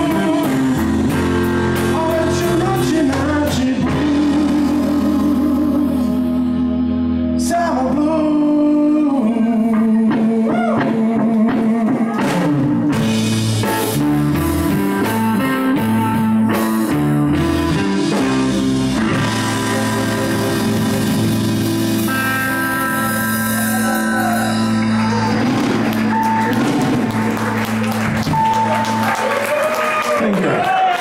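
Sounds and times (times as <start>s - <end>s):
drum kit: 0.0s - 6.6s, 9.6s - 30.7s
electric guitar lead with bends: 0.0s - 9.1s, 11.8s - 29.5s
electric bass: 0.0s - 30.0s.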